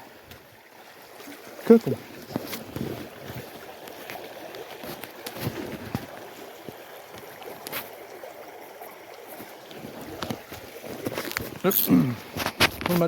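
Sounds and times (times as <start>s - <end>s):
stream rapids rushing: 0.0s - 13.0s.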